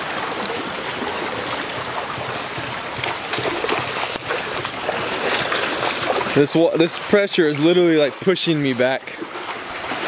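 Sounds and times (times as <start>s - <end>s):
floodwater rushing over concrete: 0.0s - 10.0s.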